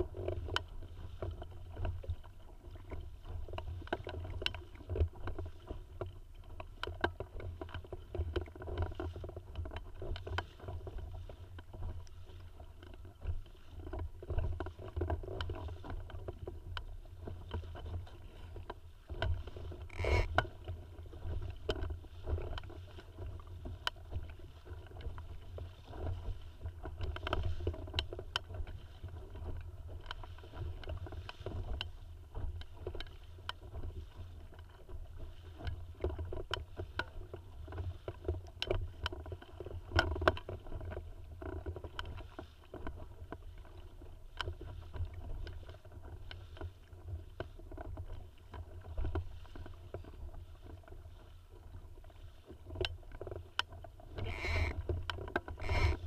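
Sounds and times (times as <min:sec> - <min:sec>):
water lapping against hull: 0:00.0 - 0:56.0.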